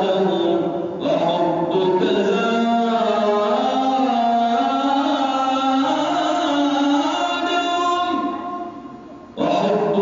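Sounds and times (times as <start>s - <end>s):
man singing devotional chant: 0.0s - 8.4s, 9.4s - 10.0s.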